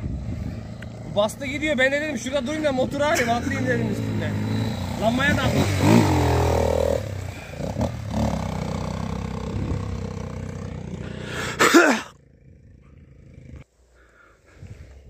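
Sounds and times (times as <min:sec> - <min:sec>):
dirt bike engine running: 0:00.1 - 0:13.6.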